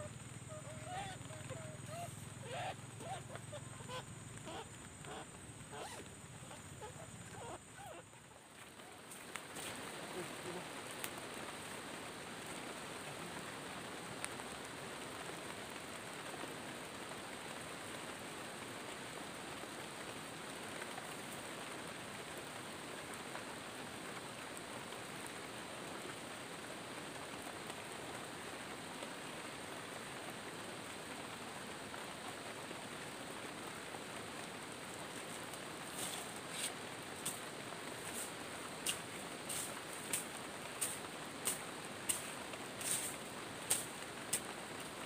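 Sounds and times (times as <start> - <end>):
steady hiss: 0.0 - 45.0.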